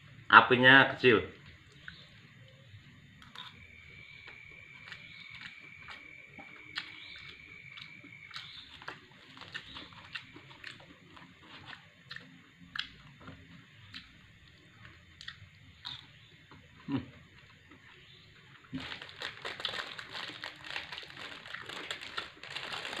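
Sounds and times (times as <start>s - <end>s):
faint high whine: 0.0s - 18.8s
man chewing with mouth open: 1.7s - 2.6s, 3.2s - 23.0s.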